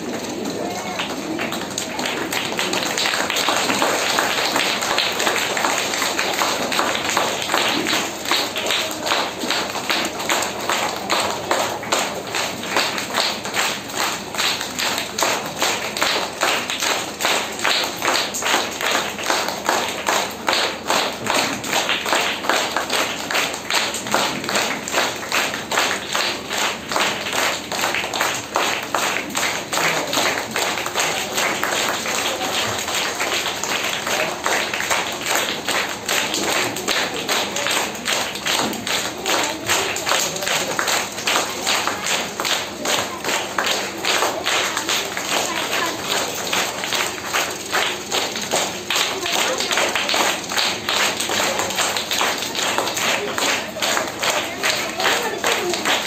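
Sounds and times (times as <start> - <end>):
crowd applauding: 0.0 - 56.0
rhythmic clapping in unison: 0.0 - 56.0.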